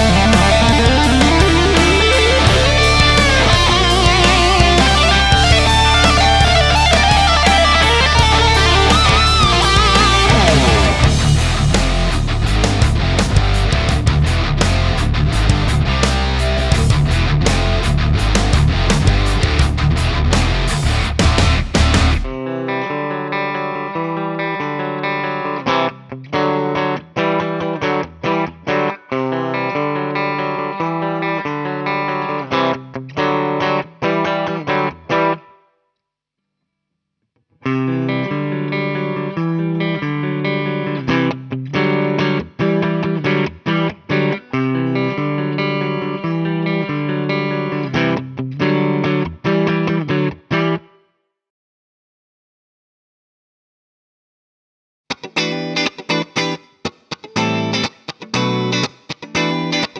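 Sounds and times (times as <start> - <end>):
electric guitar chords and stabs: 0.0 - 35.5, 37.7 - 50.9, 55.1 - 59.9.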